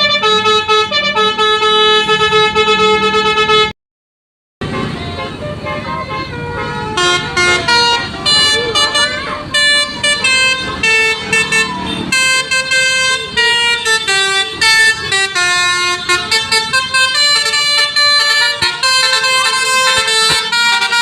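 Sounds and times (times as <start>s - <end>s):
multi-trumpet bus horn tune: 0.0s - 3.8s, 4.6s - 21.0s.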